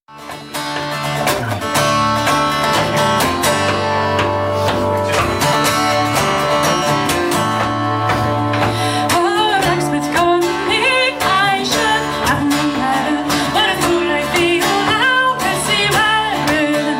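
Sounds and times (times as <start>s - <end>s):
acoustic guitar strumming: 0.1s - 16.9s.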